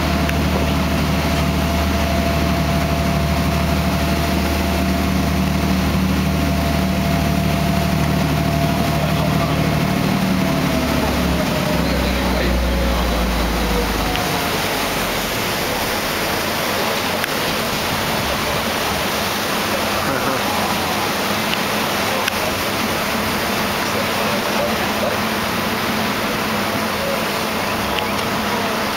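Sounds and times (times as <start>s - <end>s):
boat engine droning: 0.0s - 28.9s
wake water rushing: 0.0s - 28.9s.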